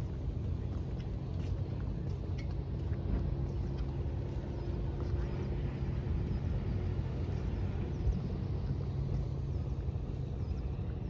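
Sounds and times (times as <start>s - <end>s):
distant boat engines rumbling: 0.0s - 11.0s.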